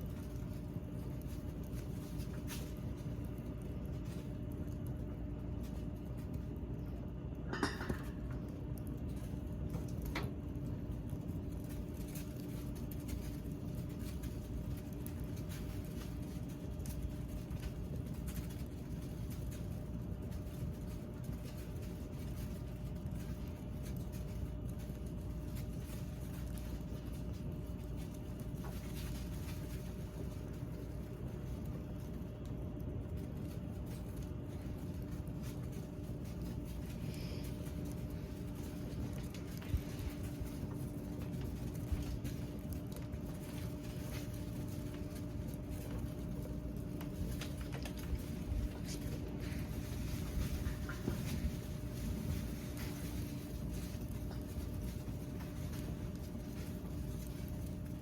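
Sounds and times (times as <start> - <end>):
low fire rumble: 0.0 - 58.0
steady hum: 0.0 - 58.0
wood fire crackling: 0.0 - 58.0.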